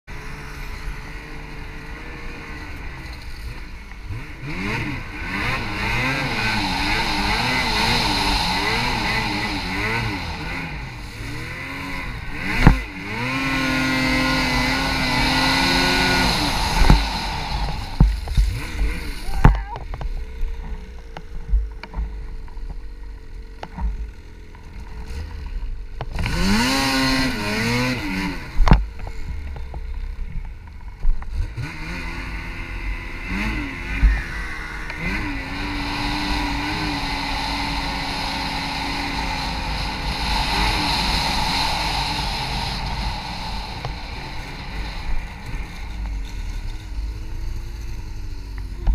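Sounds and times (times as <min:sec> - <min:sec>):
snowmobile engine revving: 0:00.1 - 0:22.4, 0:23.2 - 0:30.2, 0:31.2 - 0:48.9.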